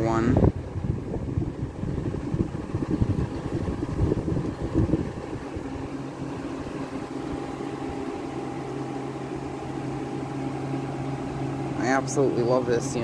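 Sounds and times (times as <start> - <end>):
compressor hum: 0.0 - 13.0
fan blowing air: 0.0 - 13.0.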